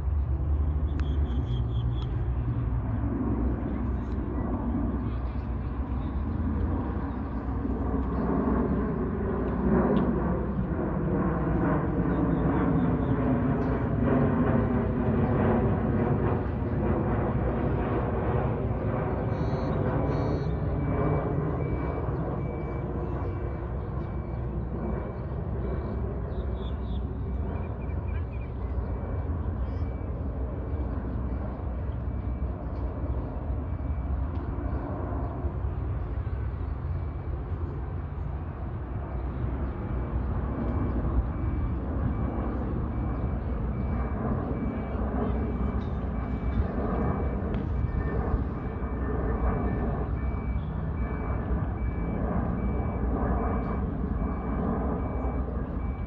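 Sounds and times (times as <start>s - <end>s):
jet airliner rumbling: 0.0s - 56.0s.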